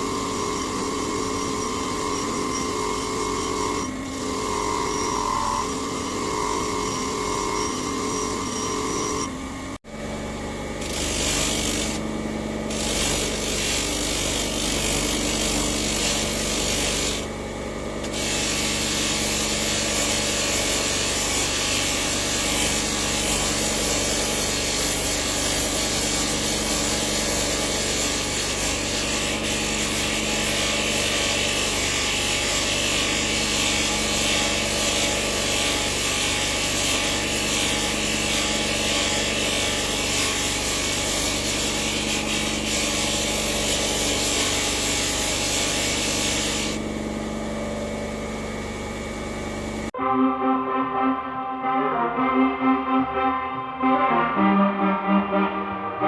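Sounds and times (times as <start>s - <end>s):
power tool grinding material: 0.0s - 9.4s, 10.8s - 17.4s, 18.0s - 46.9s.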